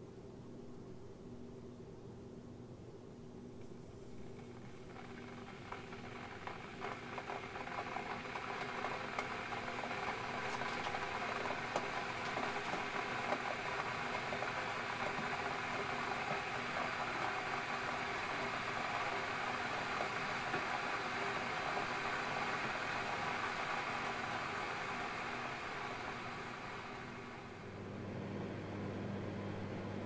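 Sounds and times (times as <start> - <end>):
electric kettle heating water: 3.5 - 30.0.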